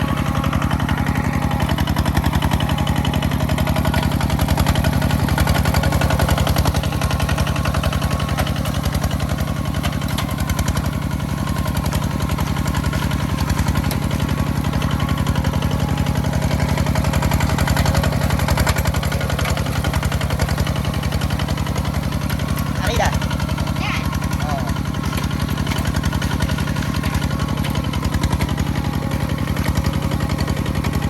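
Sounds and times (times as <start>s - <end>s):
farm machine engine running: 0.0s - 31.0s.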